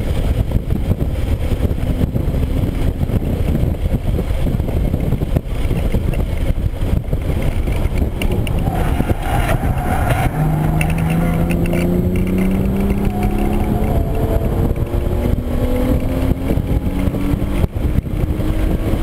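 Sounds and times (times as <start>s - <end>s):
car cabin wind and road noise: 0.0s - 19.0s.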